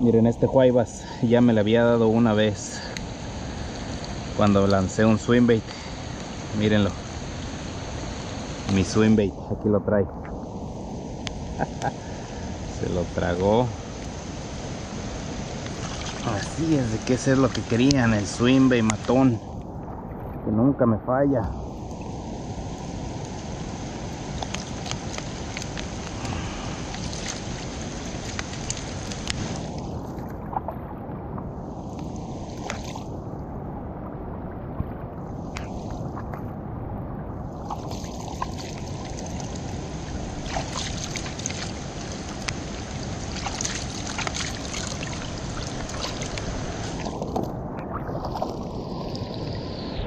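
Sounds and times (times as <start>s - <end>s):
rain falling on water: 0.0s - 49.7s.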